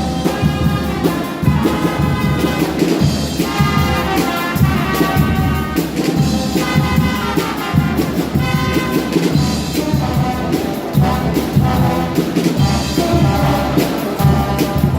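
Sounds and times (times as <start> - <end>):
bass drum and percussion beat: 0.0 - 14.9
trumpets and trombones: 0.0 - 14.9.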